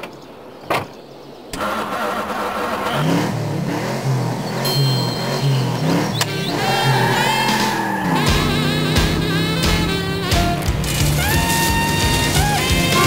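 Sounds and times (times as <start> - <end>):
car engine starting and running: 1.5 - 13.0.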